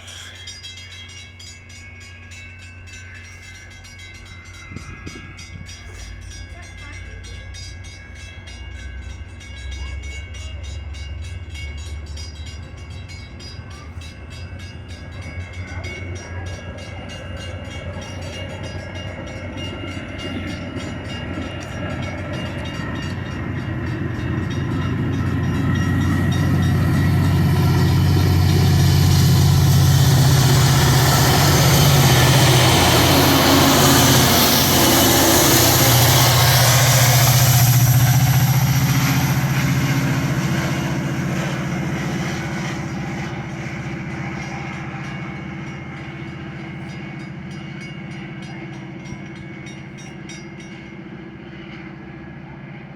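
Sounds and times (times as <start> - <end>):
diesel locomotive engine hum: 0.0 - 52.9
train rolling noise: 0.0 - 52.9.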